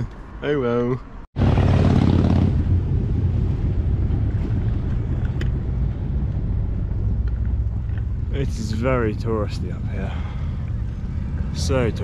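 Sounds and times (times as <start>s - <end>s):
wind rumbling on microphone: 1.4s - 12.0s.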